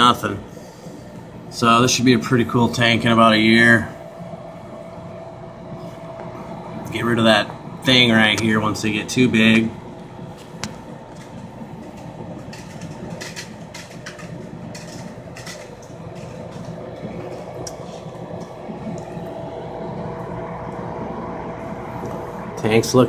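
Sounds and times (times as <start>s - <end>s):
aquarium equipment hum: 0.0s - 23.0s.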